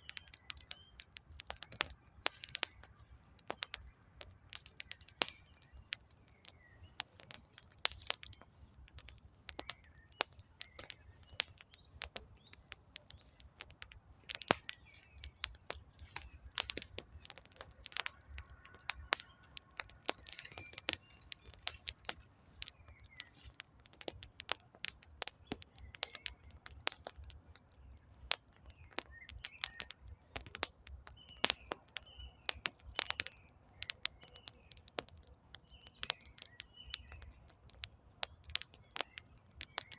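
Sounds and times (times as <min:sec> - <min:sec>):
birds chirping faintly: 0:00.0 - 0:39.9
wood fire crackling: 0:00.0 - 0:39.9.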